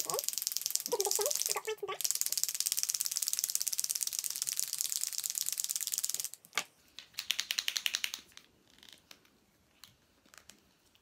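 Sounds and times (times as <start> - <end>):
marker pen ball rattling: 0.0 - 9.2.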